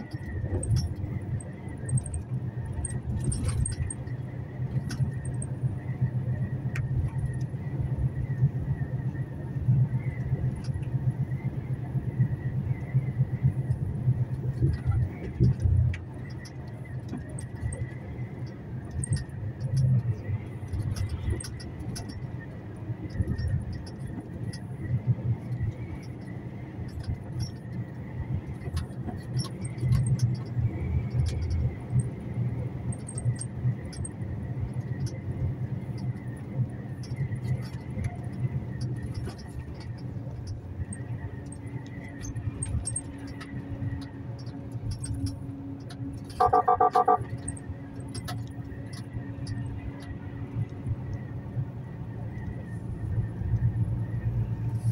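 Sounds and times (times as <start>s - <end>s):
engine and road rumble: 0.0s - 54.9s
rattles and clicks in cab: 0.0s - 54.9s.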